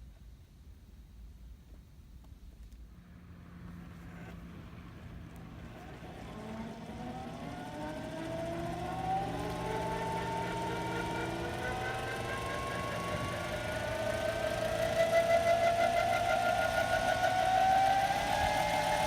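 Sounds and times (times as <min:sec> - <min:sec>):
model helicopter spooling up: 0:03.0 - 0:19.0.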